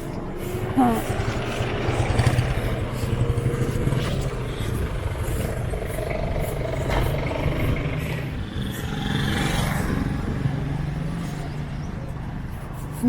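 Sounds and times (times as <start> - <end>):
street noise: 0.0 - 13.0
vehicle engine running: 0.0 - 13.0.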